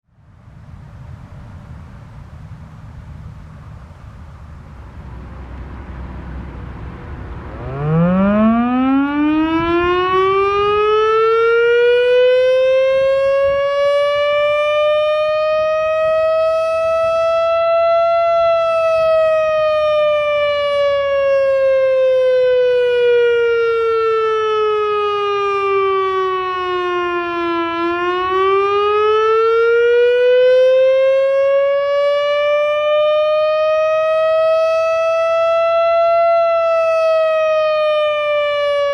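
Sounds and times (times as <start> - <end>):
warning siren winding up: 7.5 - 38.9.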